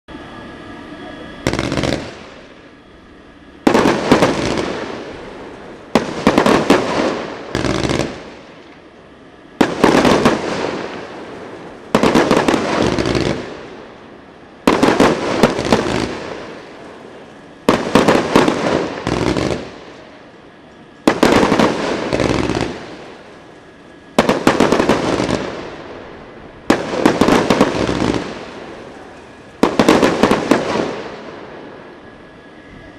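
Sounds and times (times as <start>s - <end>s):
firework bangs: 1.4s - 2.7s, 3.6s - 8.8s, 9.6s - 14.0s, 14.6s - 20.3s, 21.0s - 23.5s, 24.1s - 32.0s
firework crackling hiss: 1.4s - 8.8s, 9.6s - 20.4s, 21.0s - 32.9s.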